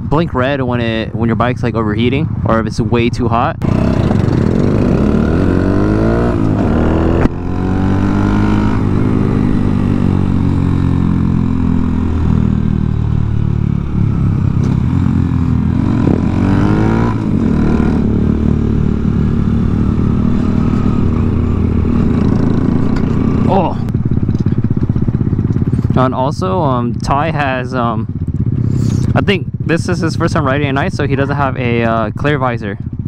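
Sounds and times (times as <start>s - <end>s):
motorcycle engine accelerating: 3.5s - 33.0s.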